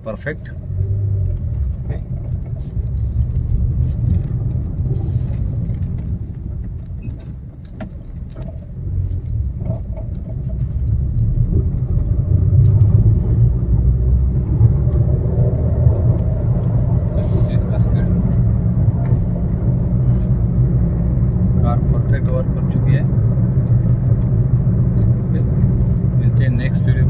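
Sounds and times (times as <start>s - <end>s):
car tyres and engine rumble: 0.0s - 27.0s.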